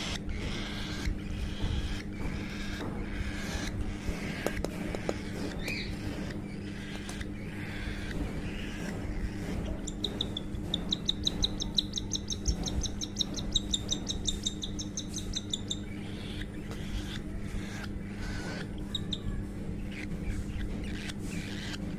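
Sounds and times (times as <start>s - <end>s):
baby cockatiel chirping: 0.0s - 21.9s.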